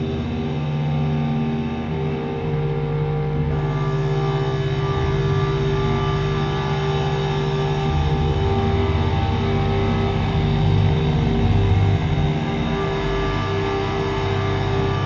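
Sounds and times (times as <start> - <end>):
buzzing synth bass: 0.0 - 15.0
synthesizer drone: 0.0 - 15.0.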